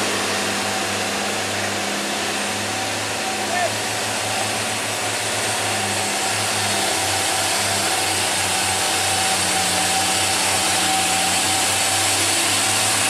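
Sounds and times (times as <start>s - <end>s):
diesel truck engine at low revs: 0.0s - 13.0s
thin steady whine: 0.0s - 13.0s.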